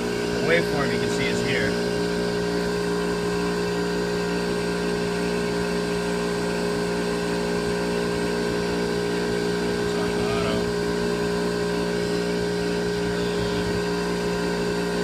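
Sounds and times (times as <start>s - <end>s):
machine hum with fixed tones: 0.0s - 15.0s.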